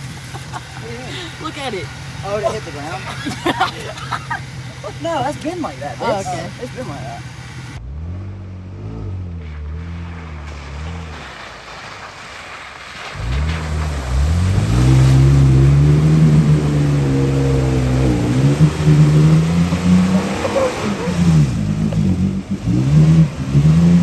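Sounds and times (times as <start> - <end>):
truck engine revving hard: 0.0 - 12.2, 13.1 - 24.0.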